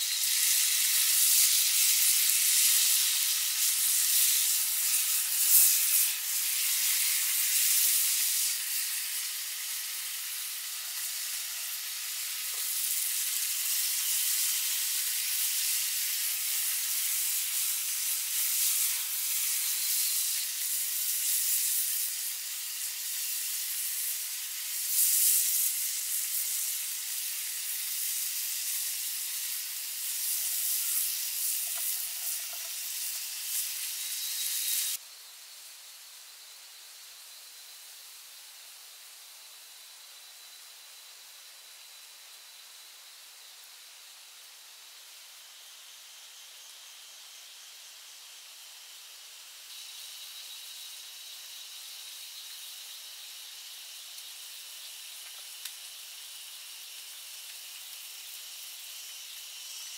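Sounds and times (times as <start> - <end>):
high crackling hiss: 0.0 - 59.9.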